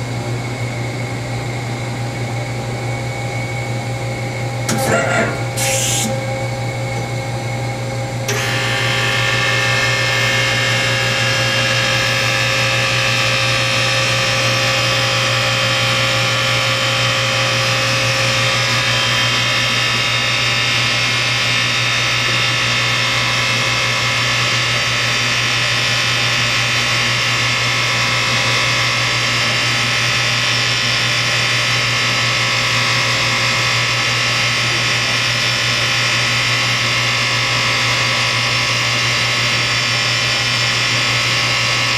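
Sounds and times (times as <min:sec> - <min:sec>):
high-pitched machine whine: 0:00.0 - 0:41.9
low machine hum: 0:00.0 - 0:41.9.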